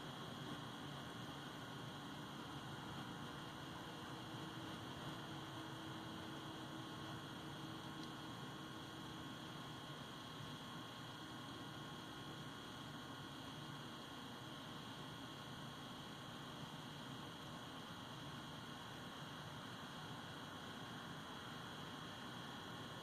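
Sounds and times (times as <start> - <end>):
faint hum and hiss: 0.0 - 23.0.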